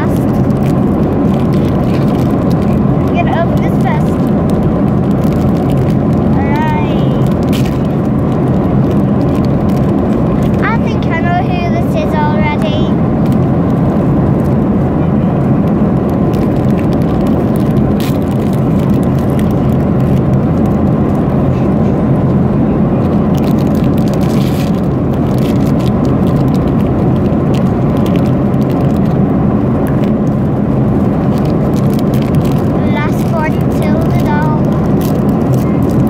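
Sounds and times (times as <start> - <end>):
airliner cabin drone: 0.0 - 36.0.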